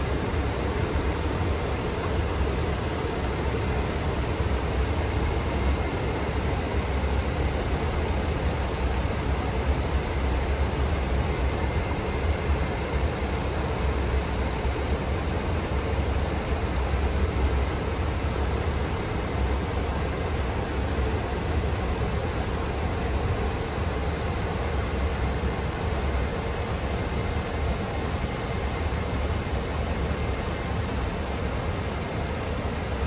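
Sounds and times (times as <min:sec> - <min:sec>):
faint steady hum: 0:00.0 - 0:33.0
ventilation air rushing: 0:00.0 - 0:33.0.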